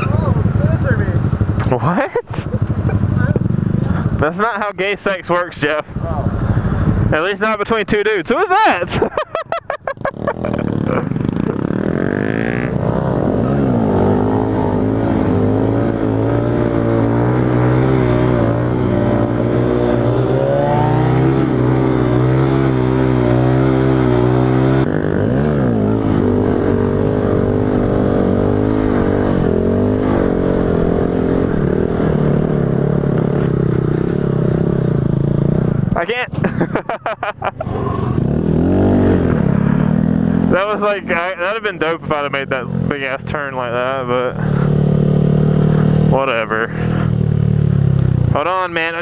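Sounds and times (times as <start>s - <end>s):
motorcycle engine revving: 0.0s - 4.3s, 9.8s - 49.0s.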